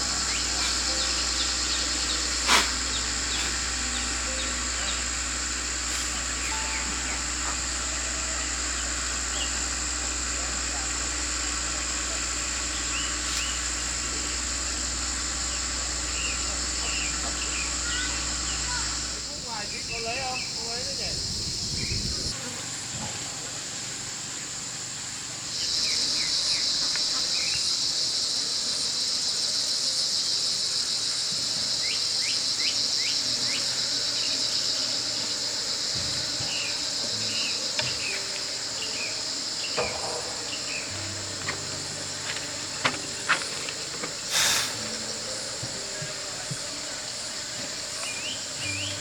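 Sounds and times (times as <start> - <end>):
insect chorus shrilling: 0.0 - 49.0.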